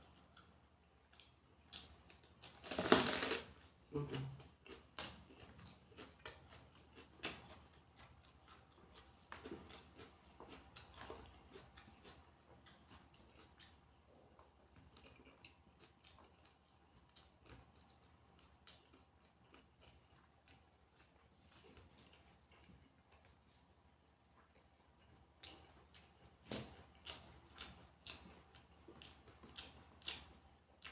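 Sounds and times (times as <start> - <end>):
chewing and eating: 0.0 - 30.9.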